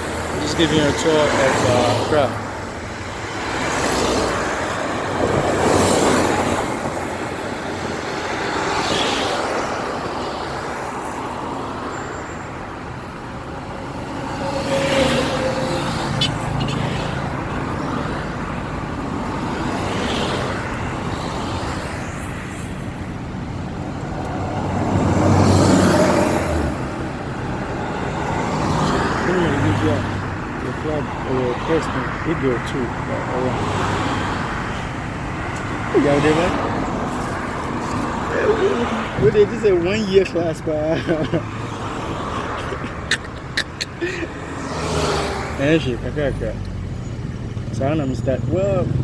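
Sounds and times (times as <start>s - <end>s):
buses passing: 0.0s - 49.0s
cars passing: 0.0s - 49.0s.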